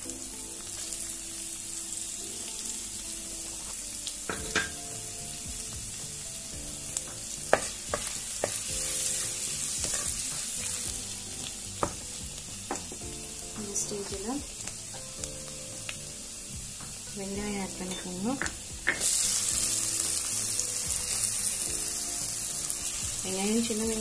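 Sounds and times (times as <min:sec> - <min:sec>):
garlic sizzling in oil: 0:00.0 - 0:24.0.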